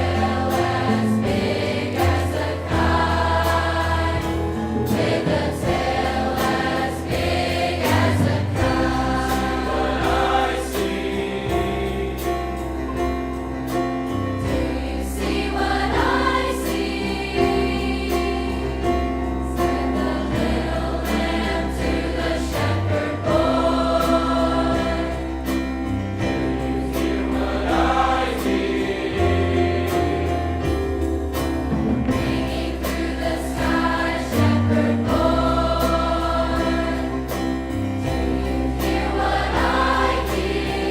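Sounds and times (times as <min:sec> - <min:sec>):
choir singing: 0:00.0 - 0:13.3, 0:14.4 - 0:31.2, 0:32.0 - 0:40.9.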